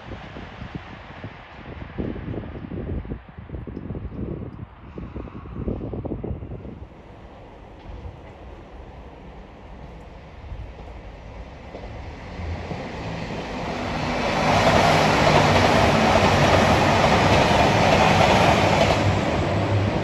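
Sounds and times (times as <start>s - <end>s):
diesel train passing at speed: 0.0s - 20.0s.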